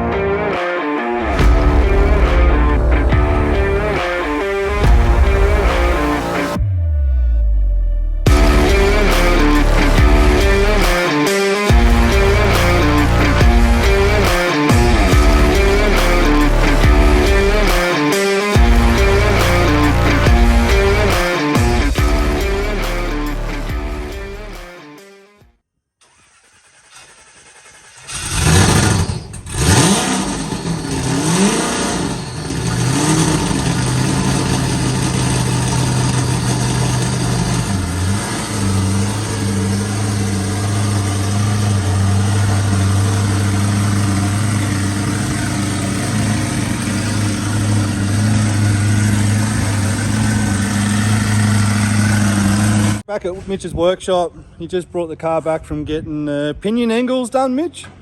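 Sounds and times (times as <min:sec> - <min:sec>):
supercharged car engine revving: 0:00.0 - 0:24.7, 0:26.0 - 0:53.1.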